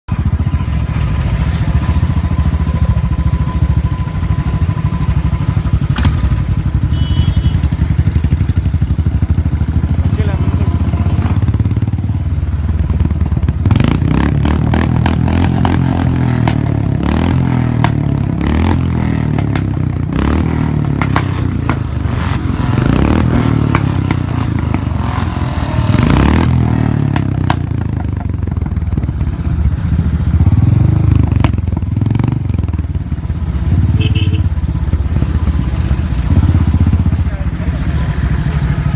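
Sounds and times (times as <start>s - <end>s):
motorcycle engine running: 0.1s - 38.9s.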